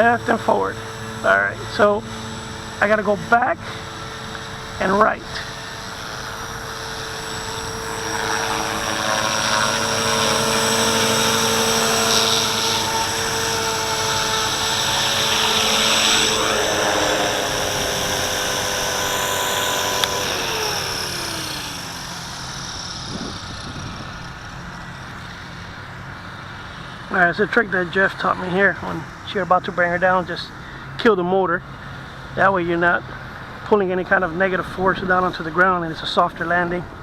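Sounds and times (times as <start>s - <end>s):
rc helicopter rotor whining: 0.0s - 37.0s.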